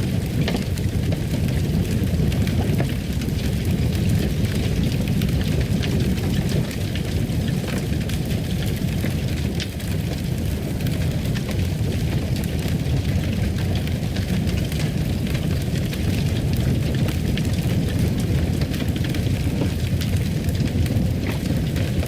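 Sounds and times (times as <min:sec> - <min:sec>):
fire crackling in fireplace: 0:00.0 - 0:22.0.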